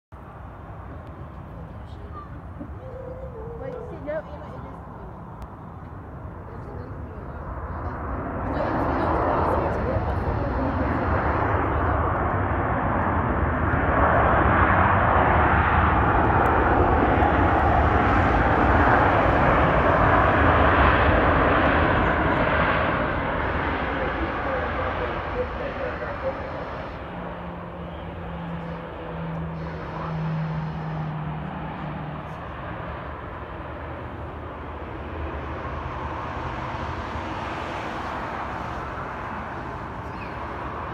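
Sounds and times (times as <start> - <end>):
jet engines roaring: 0.2 - 40.9.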